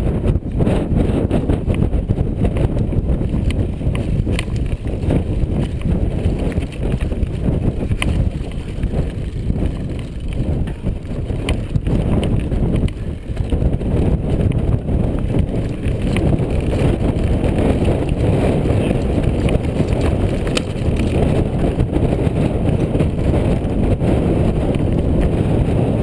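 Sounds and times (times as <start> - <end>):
wind rumble on microphone: 0.0 - 26.0
mountain bike rattling on rocks: 0.1 - 26.0
tyres over loose stones: 1.6 - 23.7.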